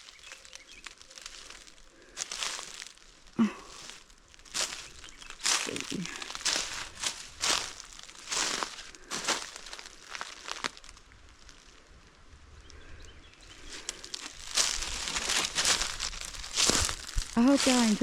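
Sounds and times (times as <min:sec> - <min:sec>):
footsteps crunching dry leaves: 0:00.0 - 0:12.3, 0:13.4 - 0:18.0.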